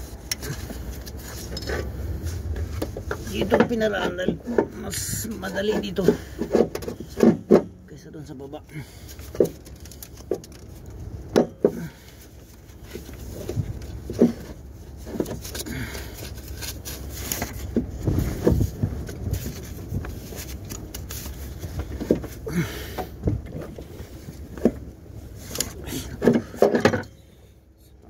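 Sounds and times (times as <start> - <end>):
low handling rumble: 0.0 - 28.0.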